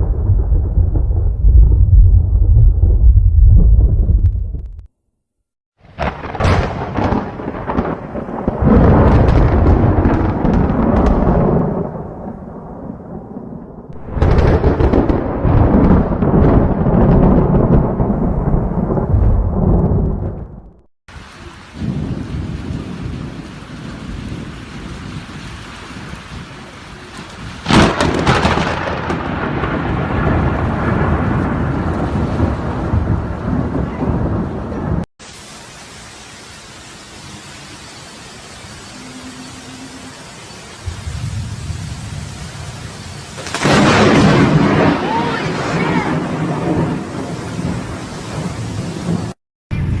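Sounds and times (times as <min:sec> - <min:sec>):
sharp thunderclap: 0:00.0 - 0:04.8, 0:05.8 - 0:20.9, 0:21.7 - 0:26.6, 0:27.2 - 0:35.1, 0:40.8 - 0:50.0
thunder rumbling: 0:00.0 - 0:04.9, 0:05.8 - 0:35.1, 0:37.2 - 0:50.0
steady rain: 0:05.8 - 0:50.0.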